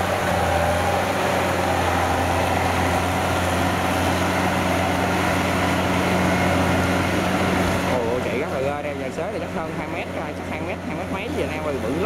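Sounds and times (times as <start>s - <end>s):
diesel engine under load: 0.0s - 12.0s
tiller churning wet mud: 0.0s - 12.0s.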